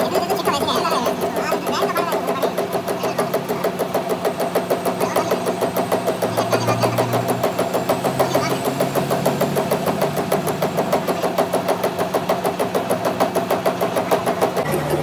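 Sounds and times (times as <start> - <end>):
workshop machine running steadily: 0.0 - 15.0.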